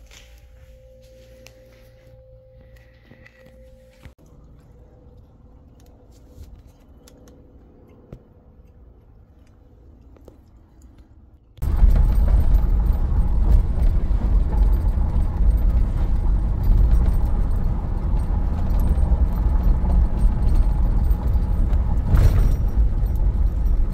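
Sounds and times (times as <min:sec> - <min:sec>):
wind and road noise in car: 0:04.1 - 0:23.9.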